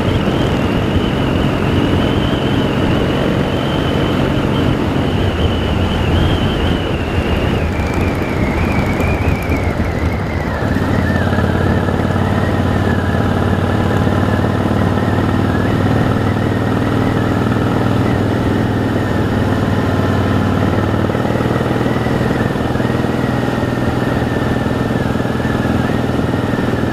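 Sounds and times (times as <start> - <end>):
motorcycle engine running: 0.0 - 26.9
whining tone dropping in pitch: 0.0 - 26.9.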